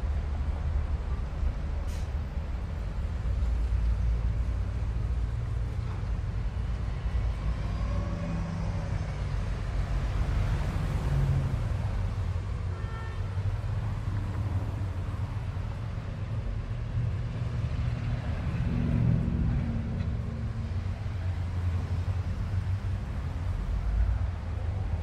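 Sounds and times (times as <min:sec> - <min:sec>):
road rumble: 0:00.0 - 0:25.0.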